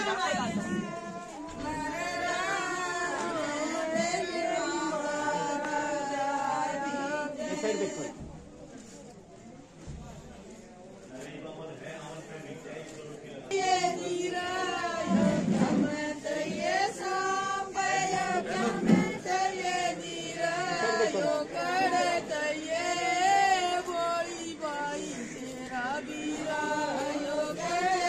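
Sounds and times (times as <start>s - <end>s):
women singing folk song: 0.0s - 8.3s, 13.5s - 28.0s.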